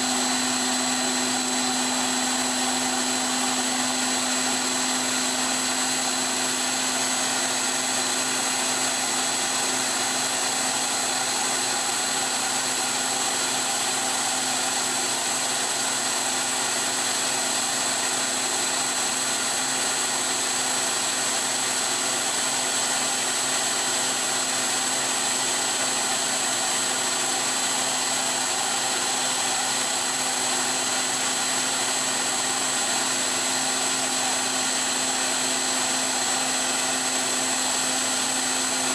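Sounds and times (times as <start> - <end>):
grinder wheel whining and hissing: 0.0 - 38.9.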